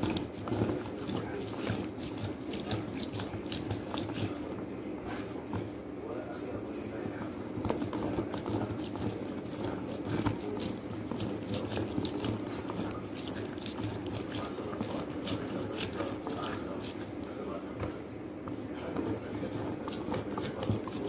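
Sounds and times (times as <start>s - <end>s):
orange squishing on citrus reamer: 0.0s - 21.0s.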